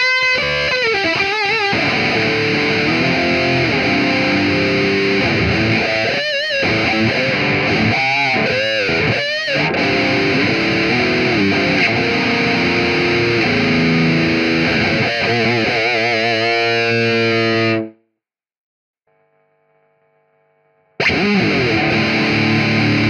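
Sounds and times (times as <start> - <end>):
distorted electric guitar melody: 0.0 - 18.1, 21.0 - 23.0.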